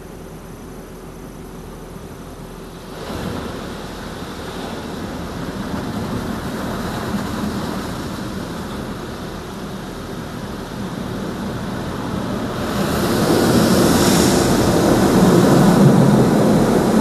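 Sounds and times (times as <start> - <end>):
water jets spraying on car: 1.0 - 17.0.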